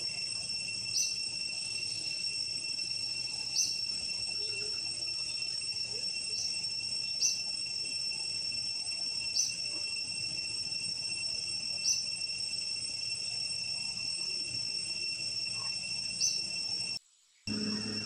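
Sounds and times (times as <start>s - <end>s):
insects droning: 0.0s - 18.0s
short insect chirp: 0.0s - 18.0s.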